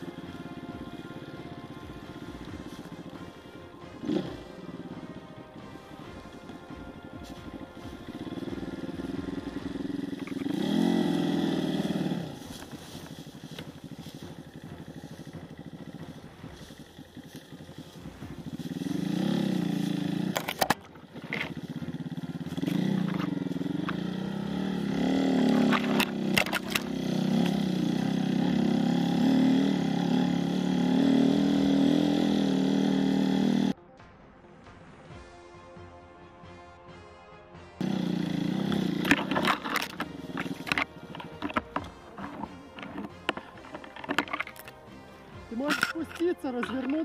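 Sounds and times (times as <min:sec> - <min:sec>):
dirt bike engine revving: 0:00.0 - 0:33.8, 0:37.8 - 0:47.0.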